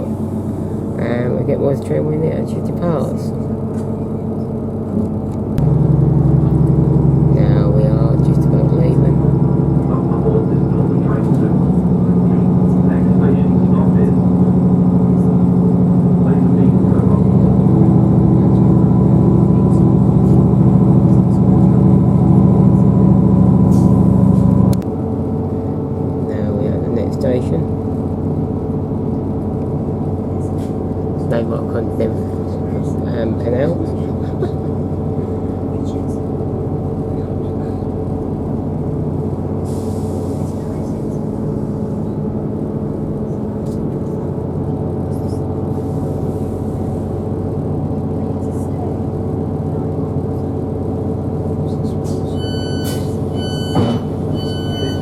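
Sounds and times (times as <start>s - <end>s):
diesel train engine droning: 0.0s - 55.0s.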